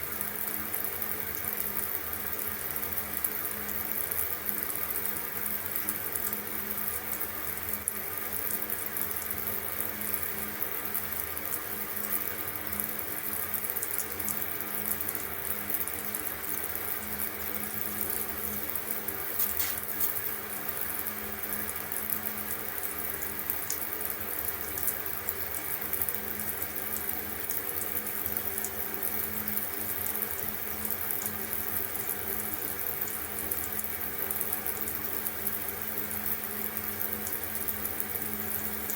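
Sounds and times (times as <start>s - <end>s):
water running: 0.0s - 38.9s.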